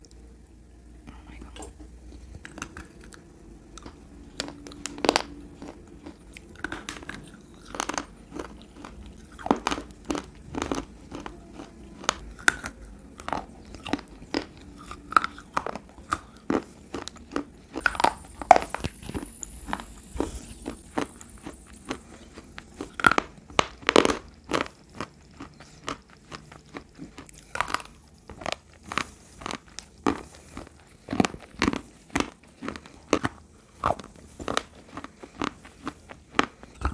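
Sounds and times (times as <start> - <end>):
chewing: 1.1 - 36.9
crunchy biting: 2.1 - 36.9.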